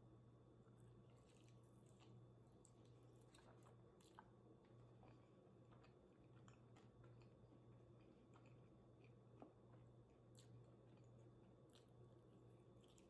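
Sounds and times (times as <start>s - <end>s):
low steady hum: 0.0s - 13.0s
close-up chewing: 0.7s - 13.0s.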